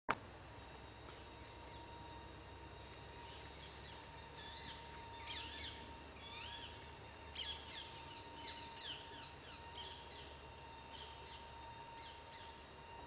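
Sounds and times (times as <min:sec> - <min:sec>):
songbirds whistling and warbling: 0:00.6 - 0:13.0.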